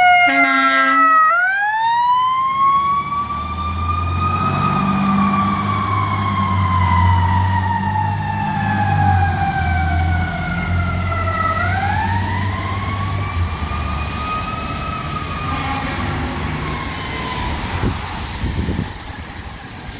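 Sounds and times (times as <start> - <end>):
fire engine siren winding: 0.0 - 18.2
heavy engine rumble passing: 2.7 - 19.9.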